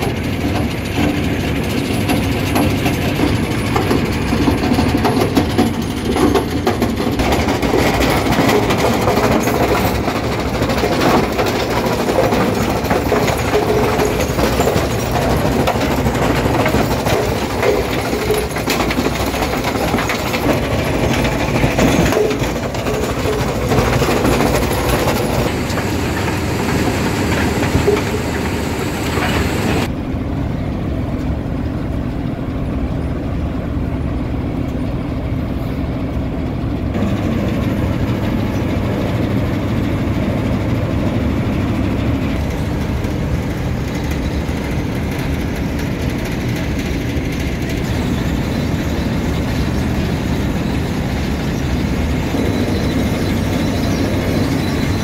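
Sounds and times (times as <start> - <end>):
rock on conveyor belt: 0.0 - 29.9, 36.9 - 55.0
rock crusher rattling and humming: 0.0 - 30.0, 35.9 - 55.0.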